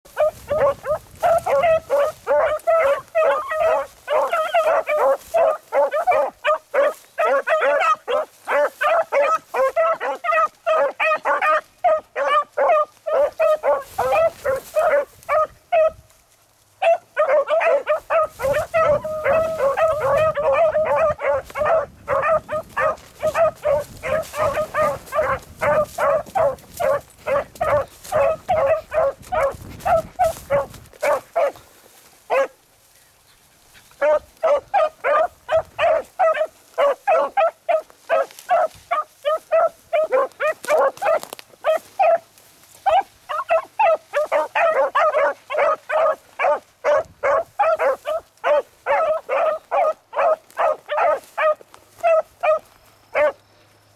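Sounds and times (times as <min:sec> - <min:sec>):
hounds barking and baying: 0:00.0 - 0:16.2, 0:16.8 - 0:53.9.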